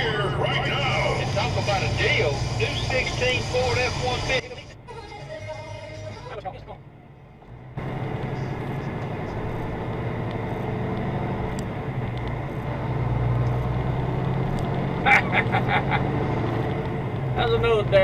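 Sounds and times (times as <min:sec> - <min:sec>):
car engine hum and road noise: 0:00.0 - 0:18.0.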